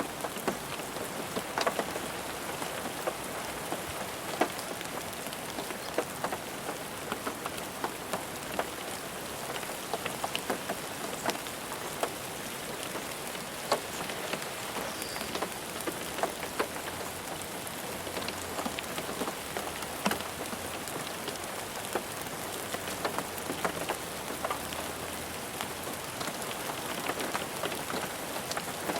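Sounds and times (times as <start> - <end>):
rain on a car roof: 0.0 - 28.9.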